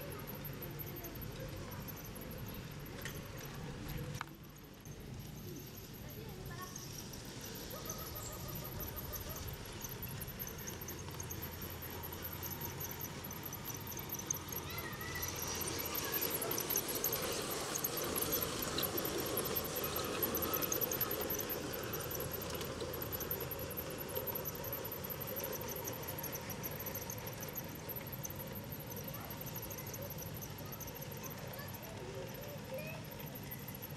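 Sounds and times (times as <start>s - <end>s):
model train running on track: 0.0s - 33.9s
high-pitched squeaking and chirping: 5.5s - 33.9s.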